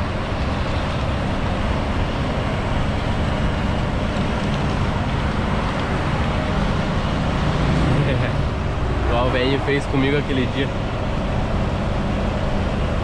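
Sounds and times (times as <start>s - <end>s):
road noise: 0.0s - 13.0s
truck engine drone from cab: 0.0s - 13.0s.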